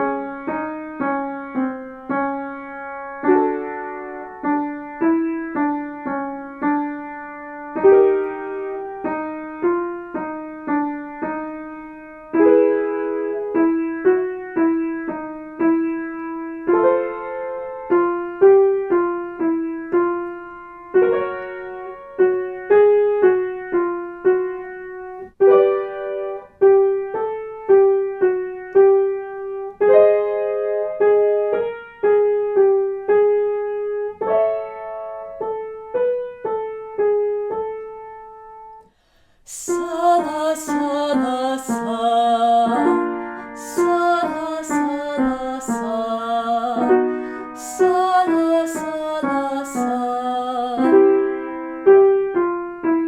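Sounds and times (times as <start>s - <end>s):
piano playing note patterns: 0.0s - 53.0s.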